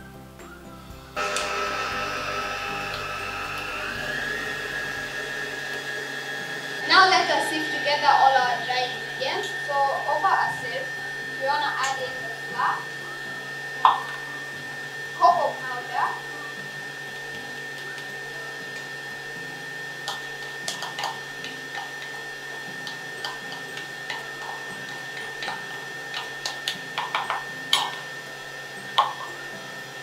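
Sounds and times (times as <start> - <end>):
stand mixer motor whining: 0.6 - 30.0.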